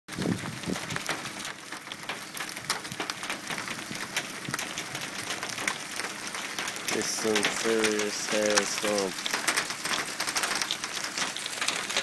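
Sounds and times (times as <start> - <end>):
heavy hail clattering: 0.1 - 12.0.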